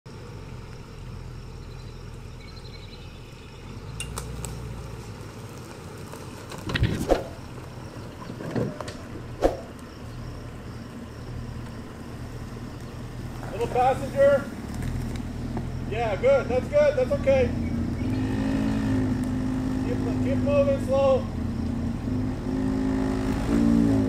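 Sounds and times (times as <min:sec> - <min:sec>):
suv engine running low: 0:00.1 - 0:24.0.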